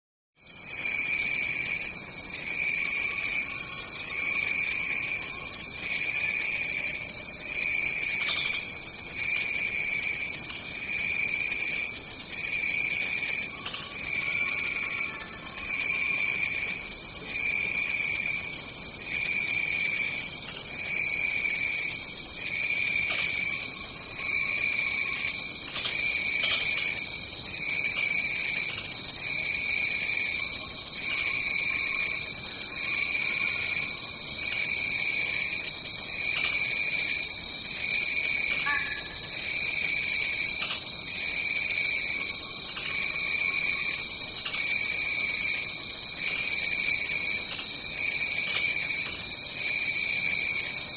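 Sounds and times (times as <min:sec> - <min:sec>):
lower pulsing insect call: 0:00.4 - 0:50.9
high-pitched insect drone: 0:00.6 - 0:50.9.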